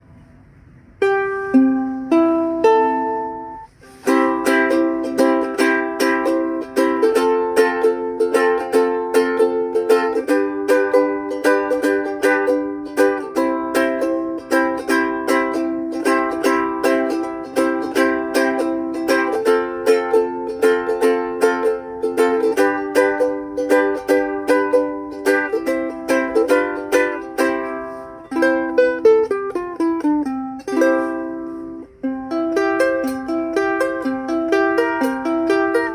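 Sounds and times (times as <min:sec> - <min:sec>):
ukulele chord strumming: 0:00.9 - 0:35.9.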